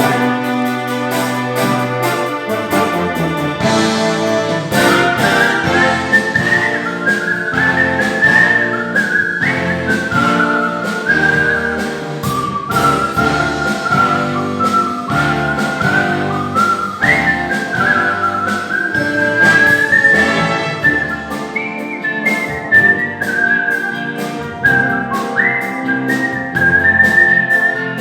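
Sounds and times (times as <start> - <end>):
instrumental accompaniment: 0.0 - 28.0
person whistling a melody: 4.8 - 28.0.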